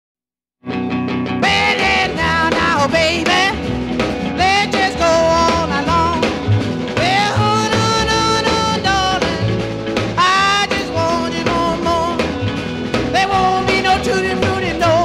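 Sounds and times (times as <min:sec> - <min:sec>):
rock and roll song with vocals: 0:00.7 - 0:15.0.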